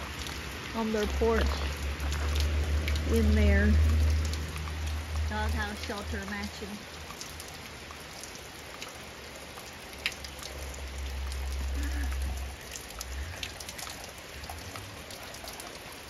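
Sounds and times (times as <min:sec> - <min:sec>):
drops ticking on wet tarp: 0:00.0 - 0:16.0
steady rain: 0:00.0 - 0:16.0.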